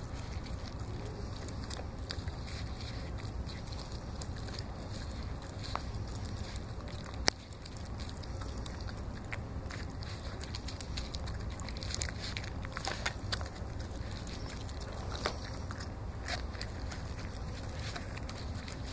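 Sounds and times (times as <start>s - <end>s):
low hum: 0.0s - 18.9s
puppy chewing wet food: 0.0s - 18.9s.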